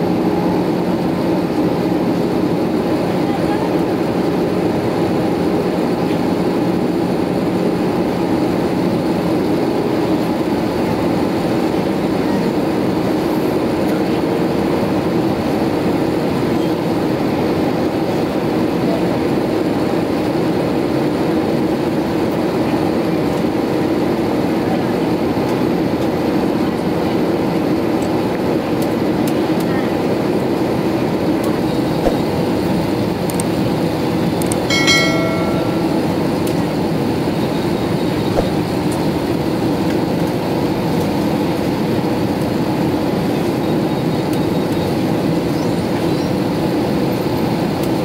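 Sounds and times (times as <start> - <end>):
jet engine hum in cabin: 0.0 - 48.0.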